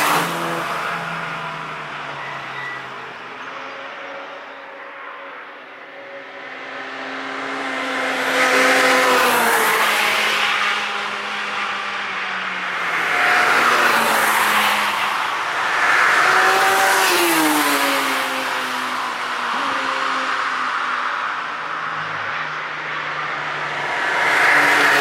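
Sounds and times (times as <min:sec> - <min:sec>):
cars passing at high revs: 0:00.0 - 0:03.4, 0:06.2 - 0:25.0.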